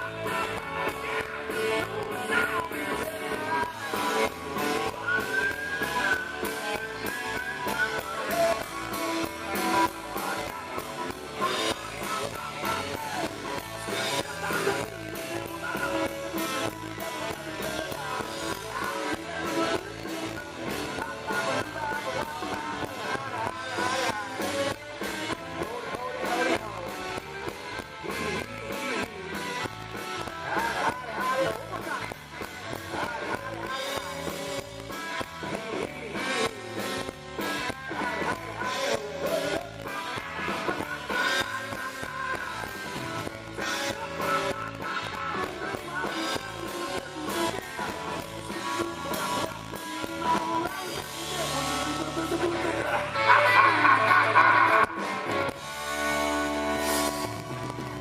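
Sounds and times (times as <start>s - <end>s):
country-rock band playing: 0.0s - 58.0s
guitar: 0.0s - 58.0s.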